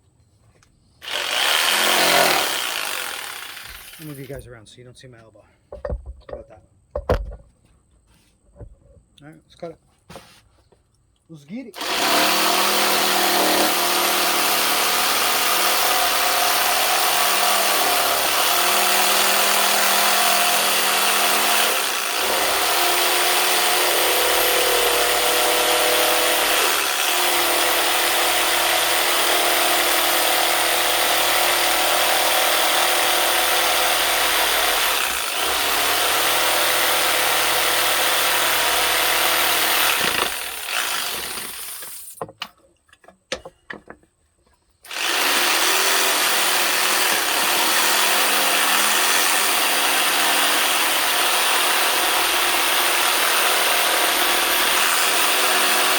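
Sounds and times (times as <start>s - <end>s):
jigsaw cutting wood: 1.0s - 4.4s, 11.8s - 42.2s, 44.8s - 55.9s.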